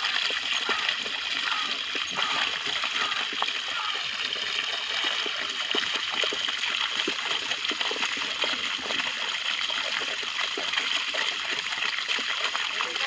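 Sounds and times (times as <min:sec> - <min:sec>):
muddy water pouring and splashing: 0:00.0 - 0:13.0.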